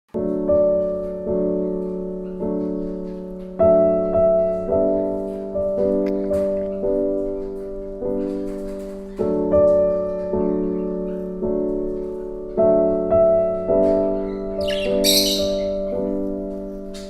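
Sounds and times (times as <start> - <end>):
slow piano chords: 0.1 - 17.0.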